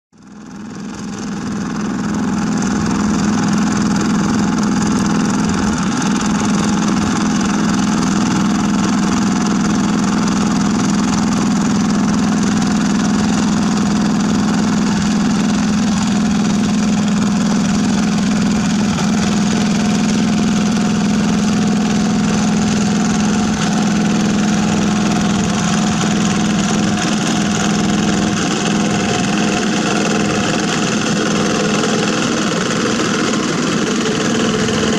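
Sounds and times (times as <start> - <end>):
diesel tractor engine running: 0.2 - 34.9.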